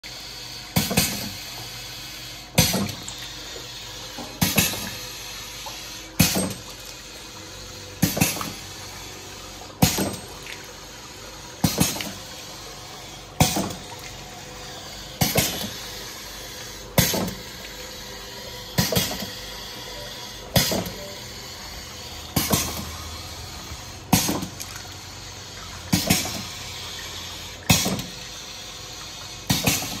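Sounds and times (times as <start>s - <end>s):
air cylinders and valves clacking: 0.7s - 30.0s.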